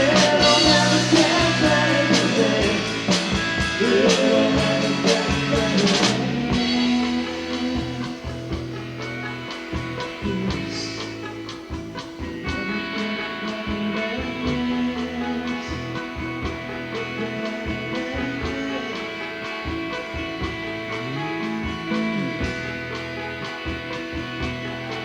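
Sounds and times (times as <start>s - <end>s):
bass guitar: 0.0s - 25.0s
electric guitars: 0.0s - 25.0s
steady drum beat: 0.0s - 25.0s.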